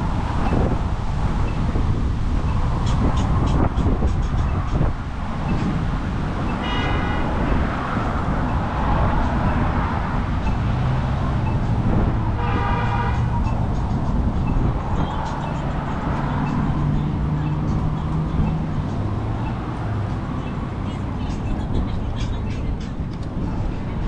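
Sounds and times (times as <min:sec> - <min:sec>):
wind and road noise rumble: 0:00.0 - 0:24.0.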